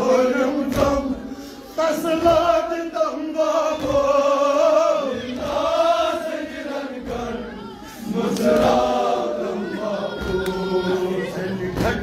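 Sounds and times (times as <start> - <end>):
men chanting slow melodic chant: 0.0 - 12.0.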